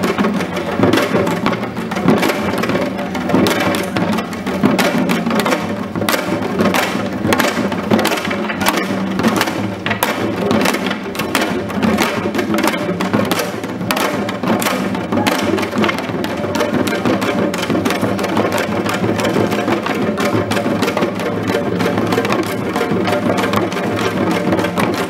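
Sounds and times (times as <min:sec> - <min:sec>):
hourglass drums struck with sticks: 0:00.0 - 0:25.0
small hand drums struck: 0:00.0 - 0:25.0.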